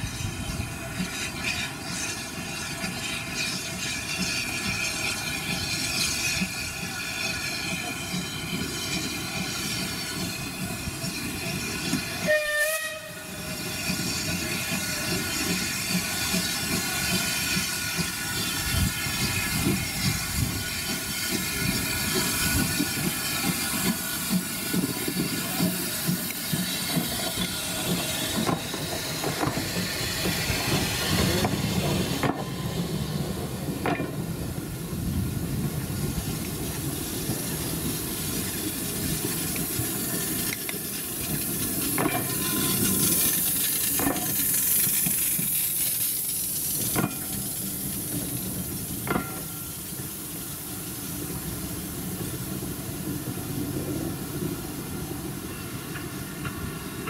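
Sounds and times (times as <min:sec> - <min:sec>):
steam locomotive hissing: 0:00.0 - 0:57.0
train wheels clicking over rail joints: 0:00.0 - 0:57.0.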